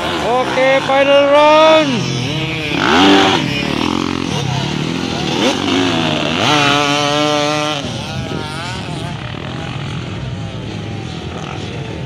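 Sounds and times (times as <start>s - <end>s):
dirt bike racing past: 0.0s - 12.0s
distant dirt bikes revving: 0.0s - 12.0s.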